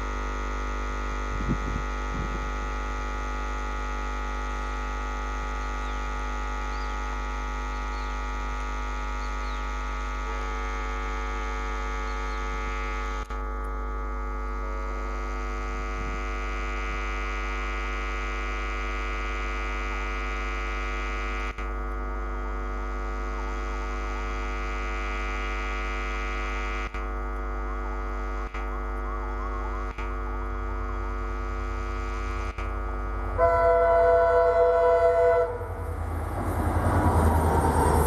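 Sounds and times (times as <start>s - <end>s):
diesel locomotive engine droning: 0.0s - 38.0s.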